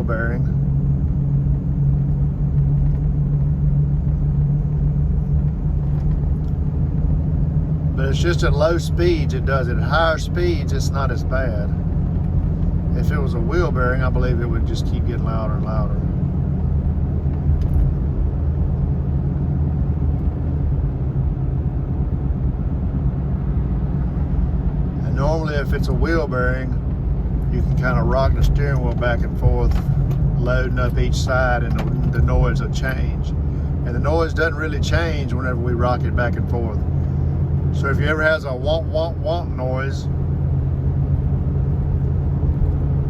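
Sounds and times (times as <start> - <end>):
tires droning rumble: 0.0 - 43.0.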